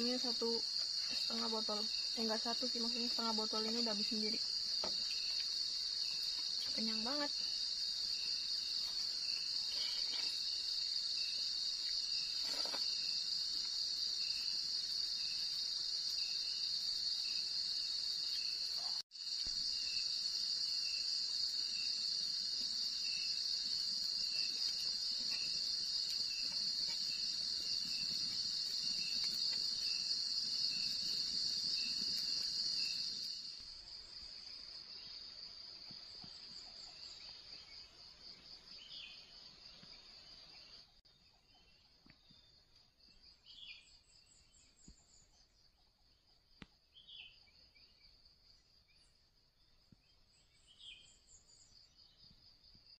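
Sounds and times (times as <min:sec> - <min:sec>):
lower pulsing insect: 0:00.0 - 0:52.9
thin quiet insect sound: 0:00.0 - 0:52.9.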